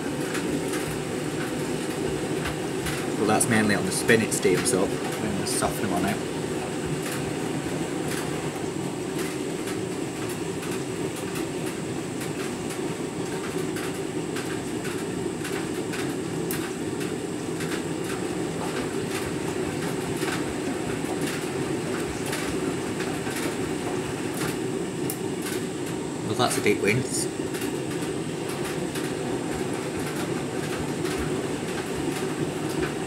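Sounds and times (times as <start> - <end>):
washing machine drum rumbling: 0.0 - 33.0.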